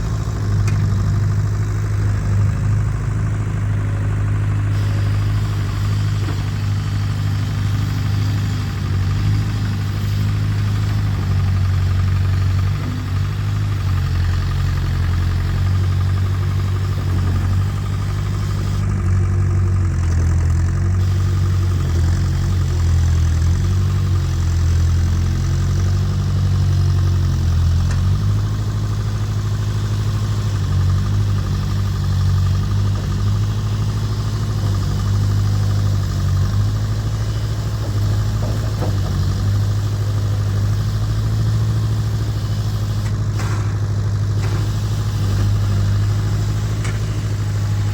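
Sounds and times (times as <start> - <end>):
backhoe diesel engine running: 0.0 - 47.9.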